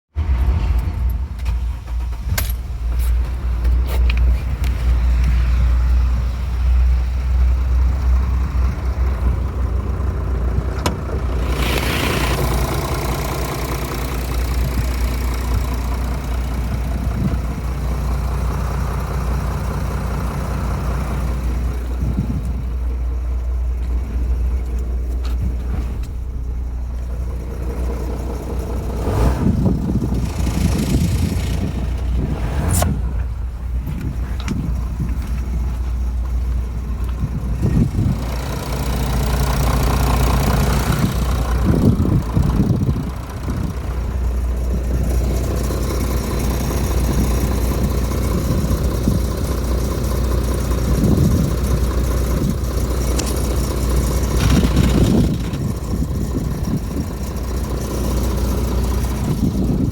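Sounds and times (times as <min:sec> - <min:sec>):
car engine rumbling: 0:00.1 - 0:59.9.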